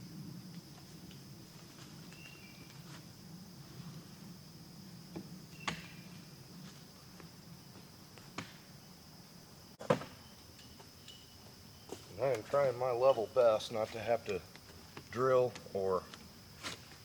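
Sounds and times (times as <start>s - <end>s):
high-pitched insect drone: 0.0s - 14.5s.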